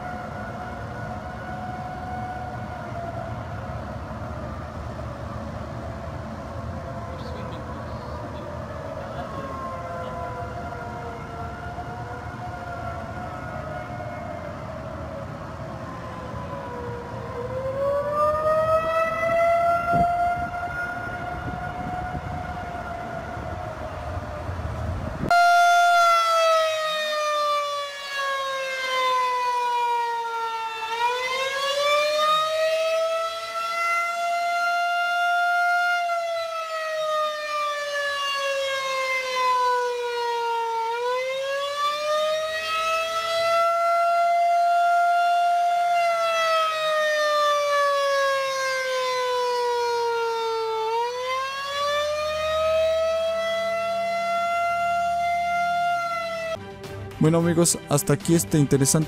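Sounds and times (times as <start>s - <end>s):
warning siren wailing: 0.0s - 56.6s.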